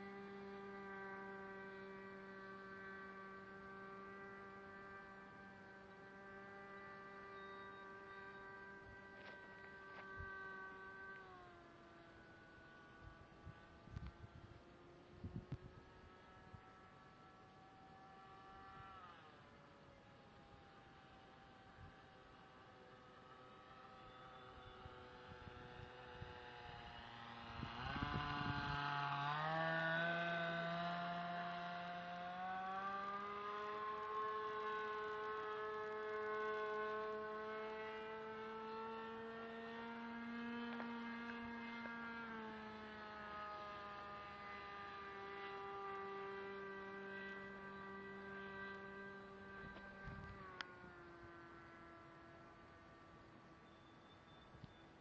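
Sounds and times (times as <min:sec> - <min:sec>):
model airplane engine buzzing: 0:00.0 - 0:55.0.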